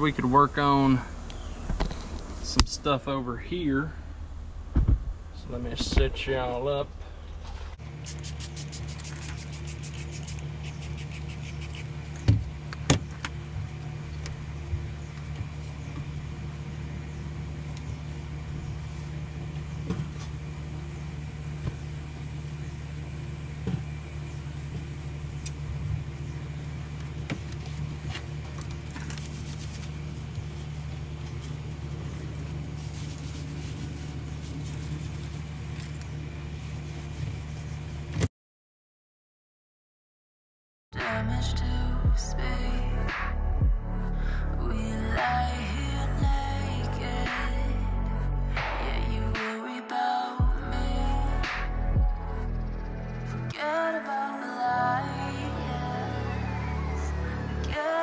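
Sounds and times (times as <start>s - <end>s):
low mechanical hum: 0.0s - 38.3s, 41.0s - 58.0s.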